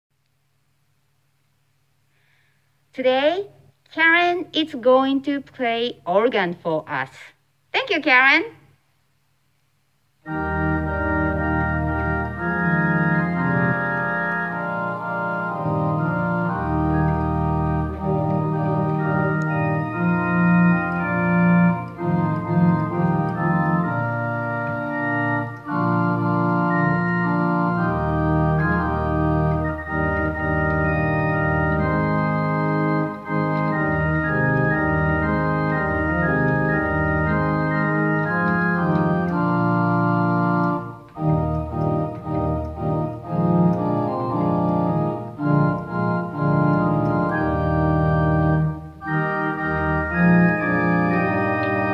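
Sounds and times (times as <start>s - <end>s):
church organ playing a hymn: 10.2s - 51.9s.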